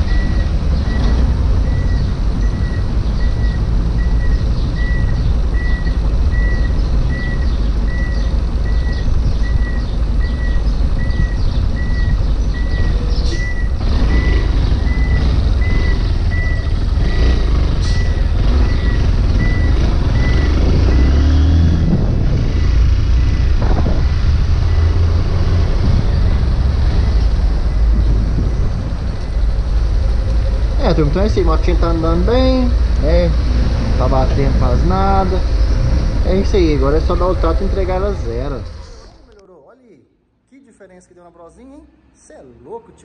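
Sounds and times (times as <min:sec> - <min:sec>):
motorcycle engine rumble: 0:00.0 - 0:39.3
road and wind noise: 0:00.0 - 0:39.4.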